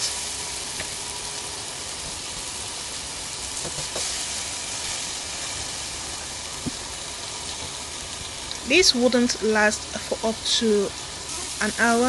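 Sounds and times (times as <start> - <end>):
meat sizzling on a grill plate: 0.0 - 12.0.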